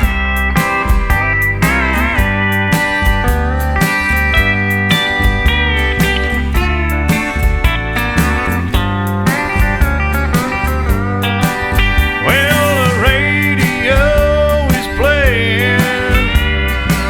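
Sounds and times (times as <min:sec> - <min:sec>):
country music with drums and guitar: 0:00.0 - 0:17.0
sliding guitar notes: 0:00.0 - 0:17.0.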